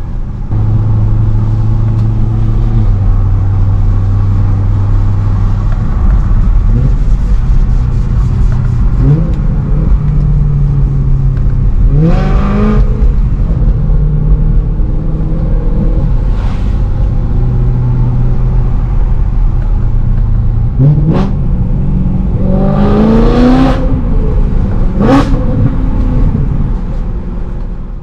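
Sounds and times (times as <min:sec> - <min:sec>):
car engine revving: 0:00.0 - 0:27.1.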